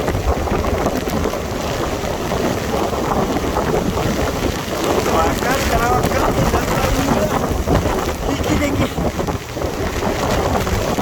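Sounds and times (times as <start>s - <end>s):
wind and driven rain: 0.0s - 11.0s
wind buffeting microphone: 0.0s - 11.0s.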